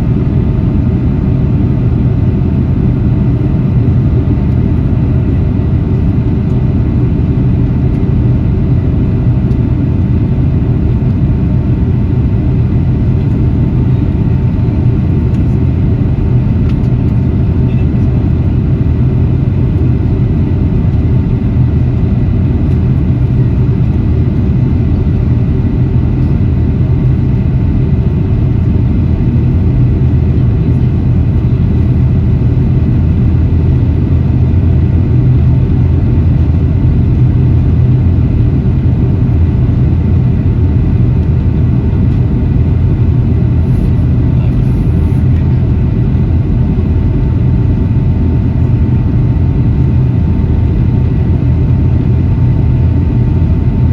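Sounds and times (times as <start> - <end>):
airplane cabin rumble: 0.0 - 53.9
faint high hum: 0.0 - 53.9.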